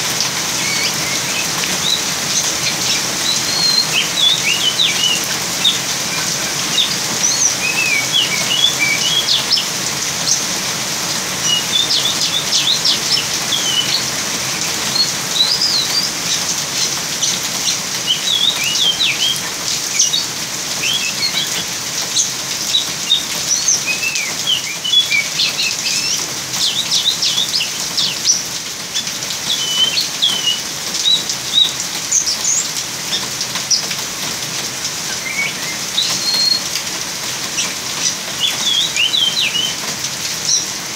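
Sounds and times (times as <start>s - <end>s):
heavy rain hiss: 0.0s - 40.9s
bird chirping and twittering: 0.2s - 34.0s, 35.0s - 40.9s.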